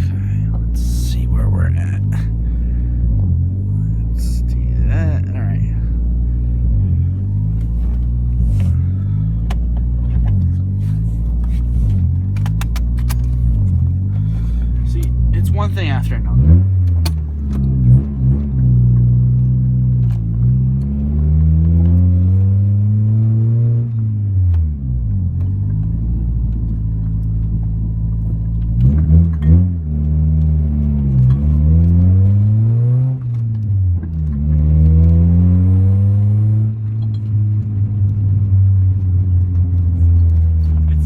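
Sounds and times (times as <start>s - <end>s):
car engine accelerating: 0.0s - 41.0s.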